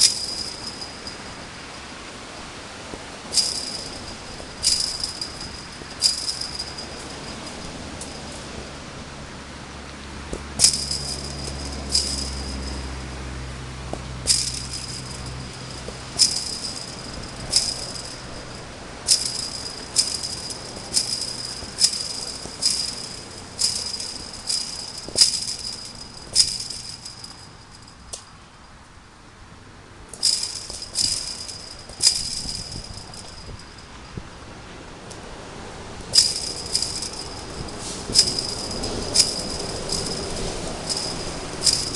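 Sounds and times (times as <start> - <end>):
ball hitting chain-link fence: 0.0 - 1.5, 3.3 - 8.5, 10.3 - 28.4, 30.1 - 34.0, 36.1 - 41.9
fence rattling: 0.0 - 1.8, 3.2 - 8.7, 10.3 - 28.4, 30.1 - 34.0, 36.0 - 41.9.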